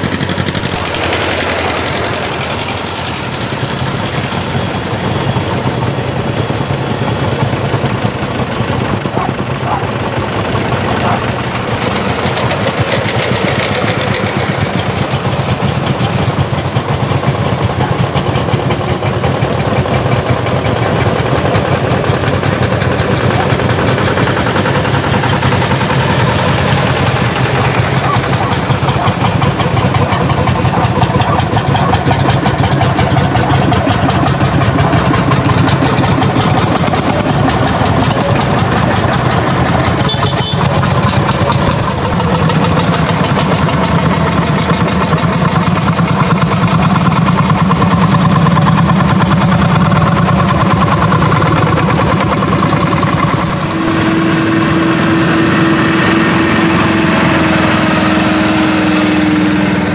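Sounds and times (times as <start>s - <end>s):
tractor engines pulsing: 0.0s - 59.9s.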